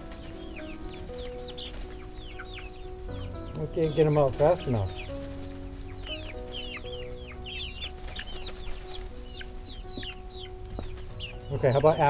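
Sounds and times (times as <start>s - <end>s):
background music with held notes: 0.0s - 12.0s
chicks peeping: 0.0s - 12.0s.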